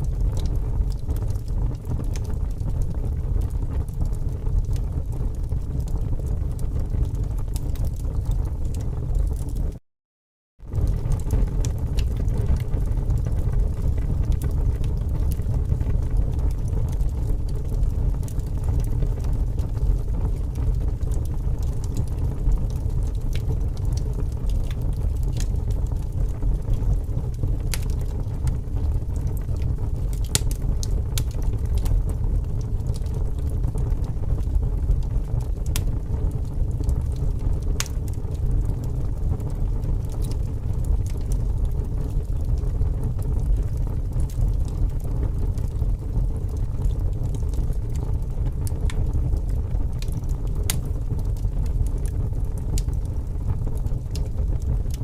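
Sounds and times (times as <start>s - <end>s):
wood fire crackling: 0.0s - 9.8s, 10.6s - 55.0s.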